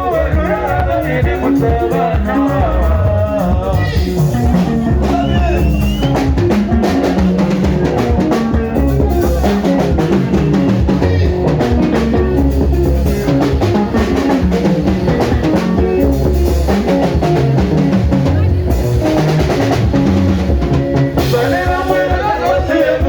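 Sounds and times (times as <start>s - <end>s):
band playing instrumental music: 0.0s - 23.0s
bass guitar: 0.0s - 23.0s
drum kit with rimshots: 0.0s - 23.0s
electric guitars: 0.0s - 23.0s.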